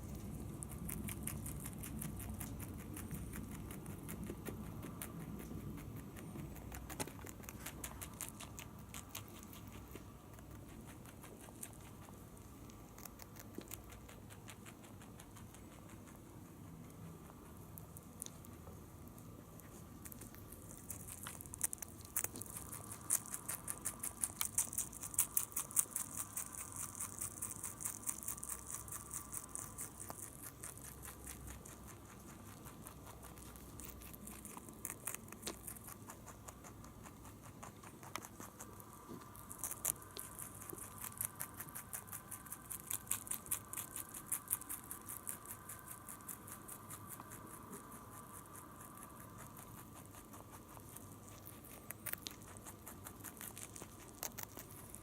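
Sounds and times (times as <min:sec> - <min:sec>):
rabbit chewing carrot: 0:00.0 - 0:55.0.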